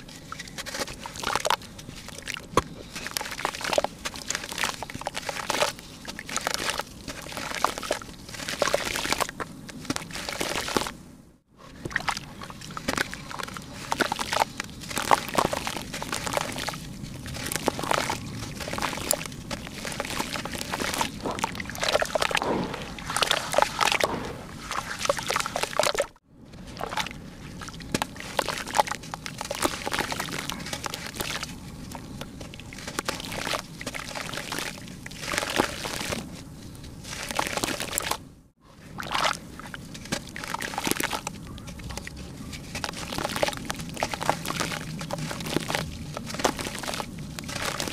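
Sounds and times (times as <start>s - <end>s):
hands crumbling wet dirt: 0.0s - 10.9s, 11.8s - 38.2s, 38.9s - 47.9s
water sloshing and splashing: 0.0s - 10.9s, 11.6s - 38.2s, 38.8s - 47.9s.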